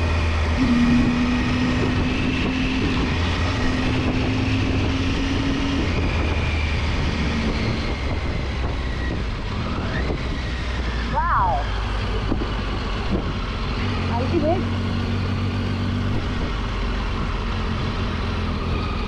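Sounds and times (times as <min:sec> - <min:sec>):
wind noise on microphone: 0:00.0 - 0:13.6, 0:14.8 - 0:18.0
motorcycle engine running: 0:00.0 - 0:19.0.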